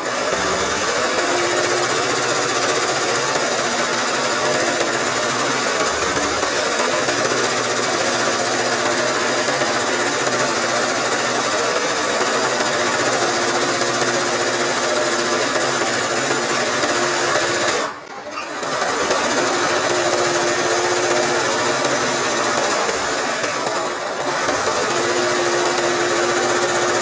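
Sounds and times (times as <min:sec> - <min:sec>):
embroidery sewing machine running: 0:00.0 - 0:27.0.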